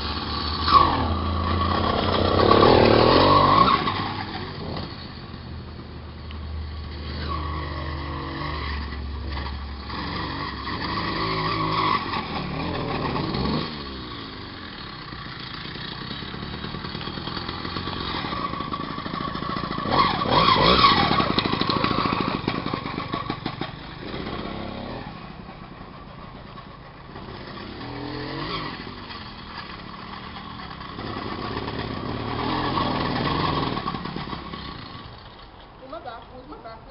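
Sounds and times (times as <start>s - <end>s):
moped engine revving: 0.0s - 36.9s.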